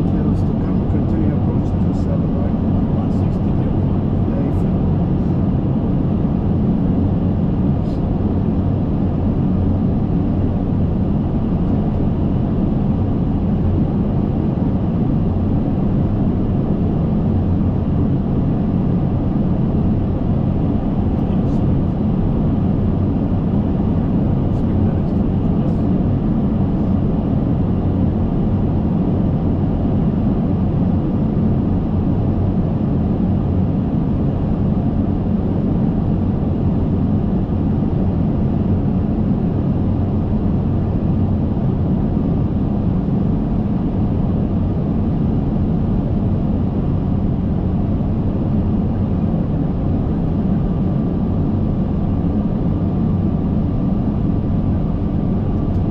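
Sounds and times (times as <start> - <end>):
cockpit airflow and engine drone: 0.0 - 55.9.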